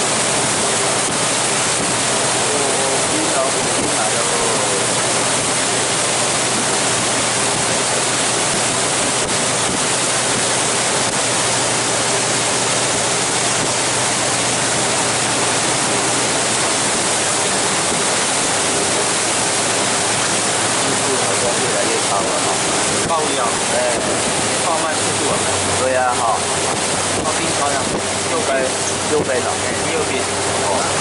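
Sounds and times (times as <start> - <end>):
wind and water rushing past boat: 0.0 - 31.0.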